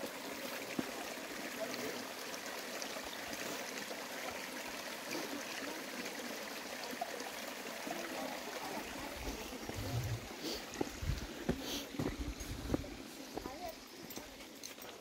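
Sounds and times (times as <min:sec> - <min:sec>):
creek running over stones: 0:00.0 - 0:15.0.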